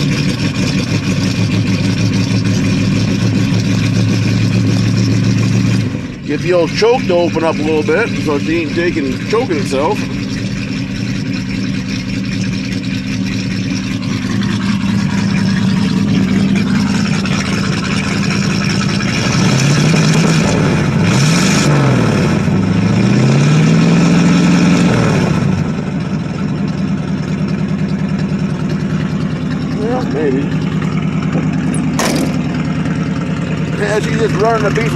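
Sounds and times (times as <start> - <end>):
engine idling and revving: 0.0 - 34.9.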